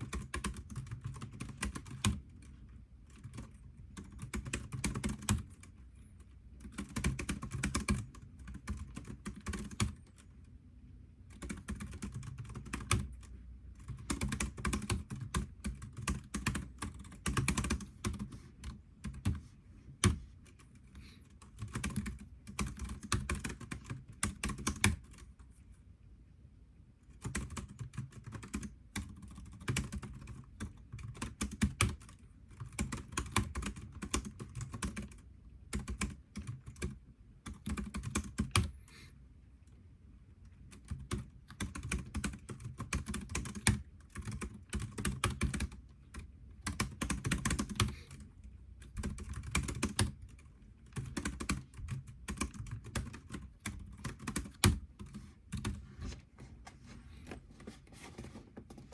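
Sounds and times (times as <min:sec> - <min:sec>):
computer keyboard typing: 0:00.0 - 0:05.7, 0:06.6 - 0:10.3, 0:11.3 - 0:25.3, 0:27.1 - 0:38.7, 0:40.7 - 0:55.8.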